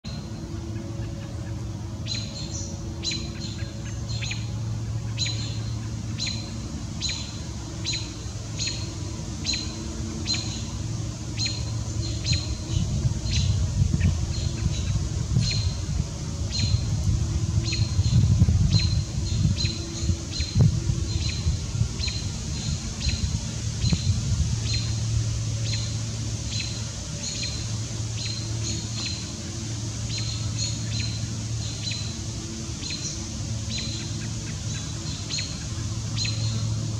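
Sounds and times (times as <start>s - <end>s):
low rumbling hum: 0.0s - 36.9s.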